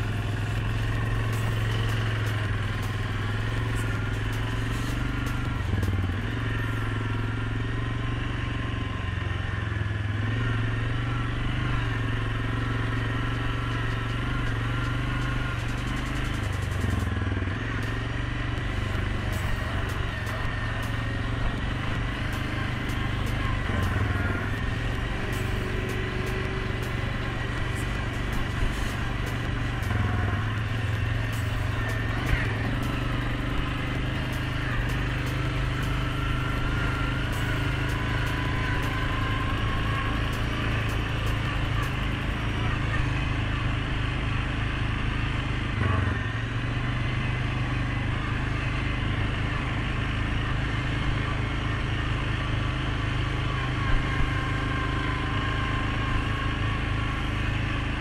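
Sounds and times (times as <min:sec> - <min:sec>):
faint engine whine: 0:00.0 - 0:58.0
quad bike engine running: 0:00.0 - 0:58.0.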